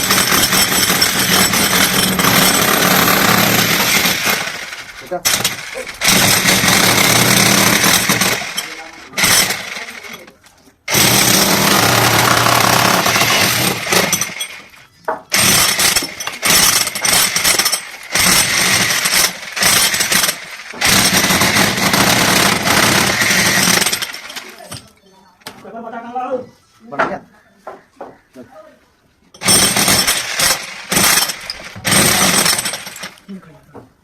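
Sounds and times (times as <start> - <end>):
jackhammer running: 0.0 - 10.3, 10.9 - 24.8, 29.4 - 33.2.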